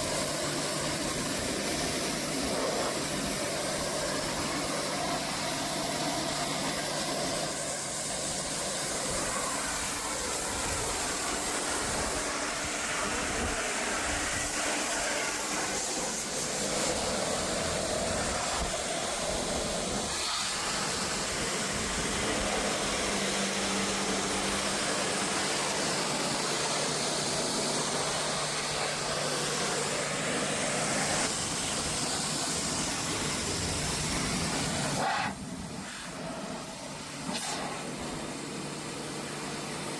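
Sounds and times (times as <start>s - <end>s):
pressure washer spray hiss: 0.0s - 39.9s.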